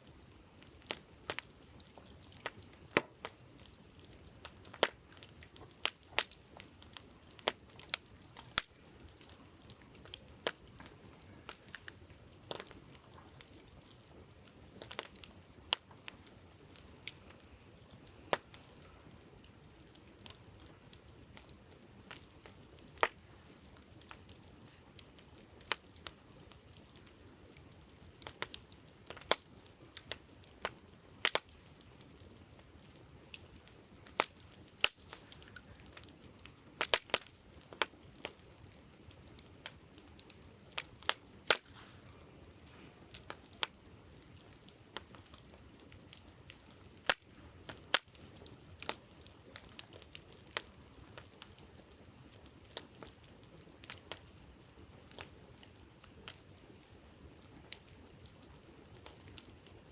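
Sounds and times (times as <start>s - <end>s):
campfire crackling: 0.0s - 59.9s
faint steady hiss: 0.0s - 59.9s.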